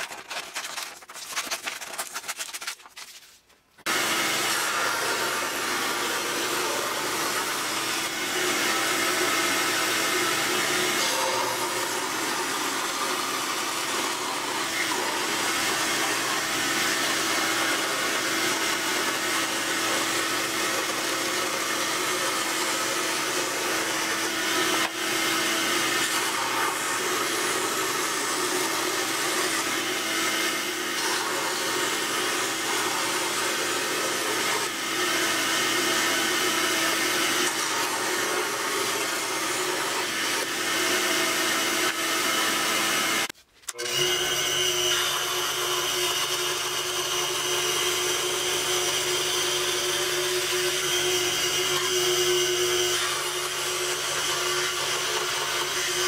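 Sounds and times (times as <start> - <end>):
scroll saw buzzing: 3.9 - 56.0.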